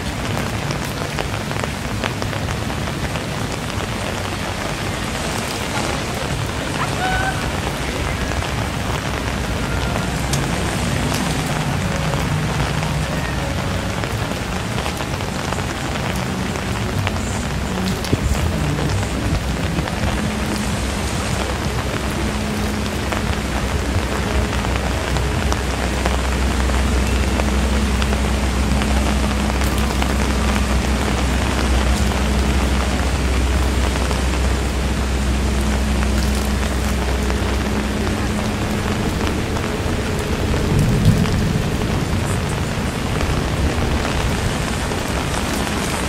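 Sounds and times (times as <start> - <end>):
constant low hum: 0.0 - 46.0
rain falling: 0.0 - 46.0.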